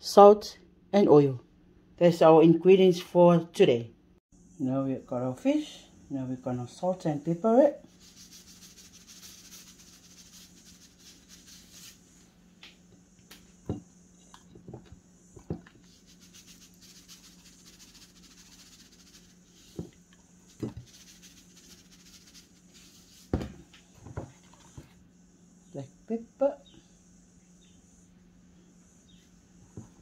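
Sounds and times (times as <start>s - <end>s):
faint steady hum: 3.6s - 30.0s.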